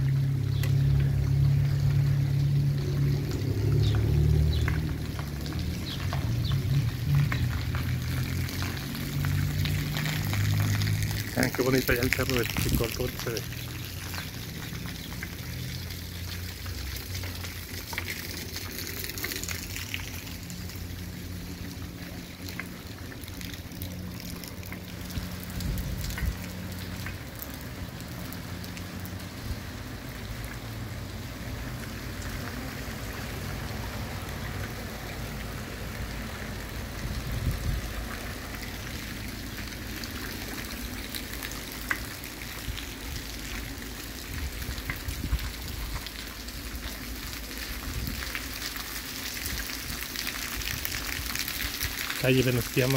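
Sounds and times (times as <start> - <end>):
light rain on wet pavement: 0.0 - 52.9.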